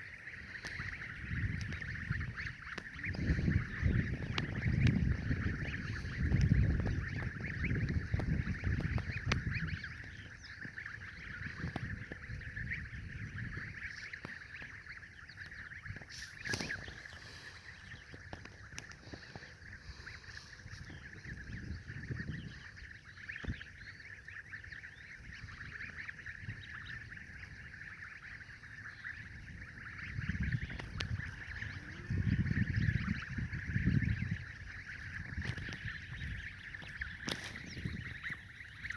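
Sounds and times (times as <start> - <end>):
poultry flock calling: 0.0 - 38.9.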